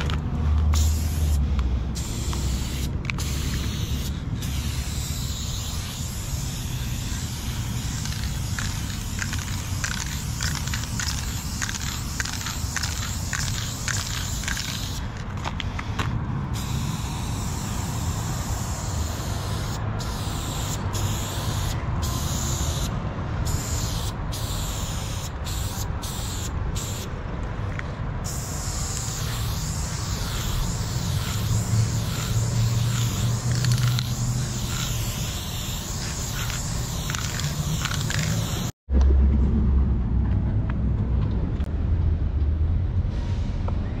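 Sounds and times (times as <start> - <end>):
aerosol spray can hissing: 0.7 - 22.9, 23.5 - 27.1, 28.3 - 38.8.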